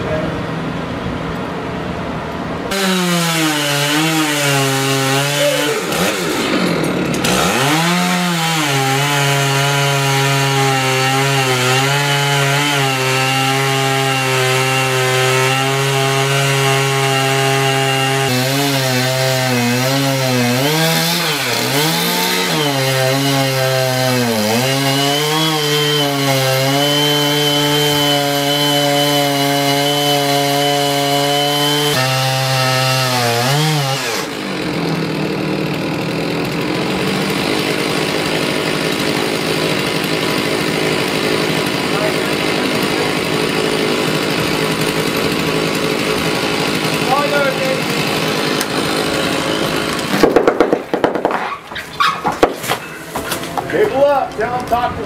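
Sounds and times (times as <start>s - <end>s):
chainsaw cutting tree trunk: 2.7s - 54.1s.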